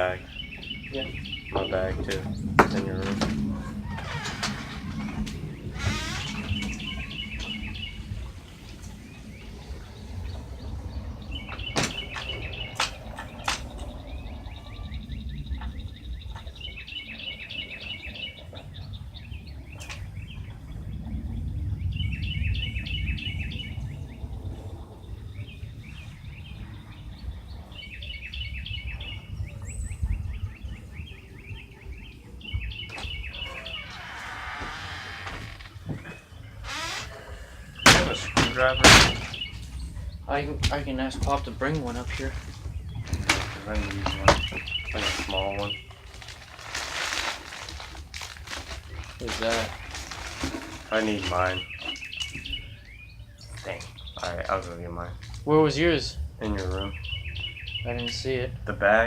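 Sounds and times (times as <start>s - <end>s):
low rumble: 0.0s - 54.2s.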